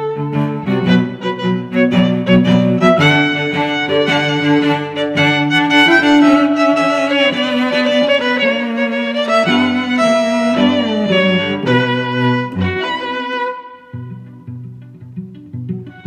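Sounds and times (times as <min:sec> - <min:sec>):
instrumental music with held notes: 0:00.0 - 0:16.0.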